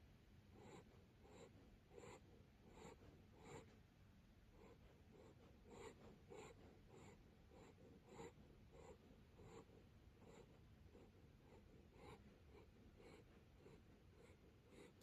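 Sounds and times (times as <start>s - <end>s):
dog snoring faintly: 0.5s - 3.8s, 4.4s - 15.0s.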